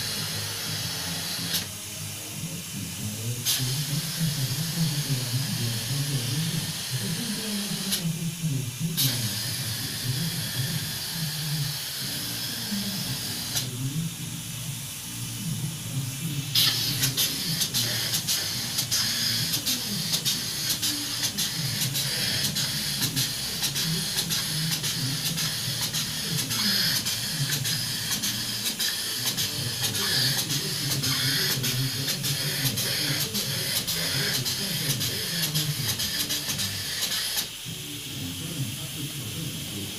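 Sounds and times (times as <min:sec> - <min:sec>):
spray foam gun hissing: 0:00.0 - 0:39.9
steady low hum: 0:00.0 - 0:39.9.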